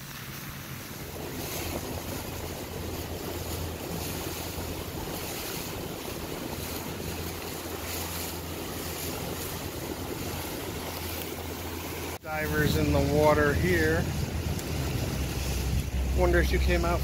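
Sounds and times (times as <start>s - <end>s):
outboard motor hum: 0.0s - 17.0s
water rushing along hull: 0.0s - 17.0s
wind buffeting microphone: 0.3s - 17.0s.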